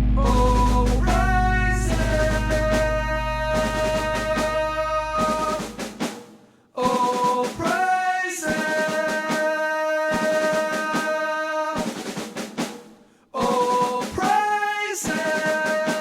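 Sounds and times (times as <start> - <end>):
drum kit: 0.0 - 11.2, 11.8 - 16.0.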